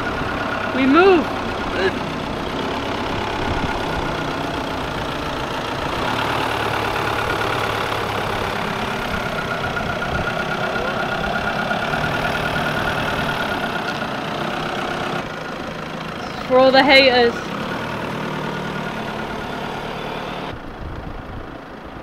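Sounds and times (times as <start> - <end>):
car engine running at low speed: 0.0 - 22.0.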